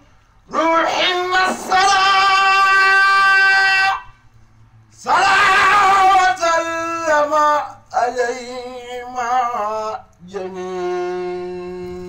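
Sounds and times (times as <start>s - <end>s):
man chanting: 0.0s - 4.1s, 4.9s - 12.0s.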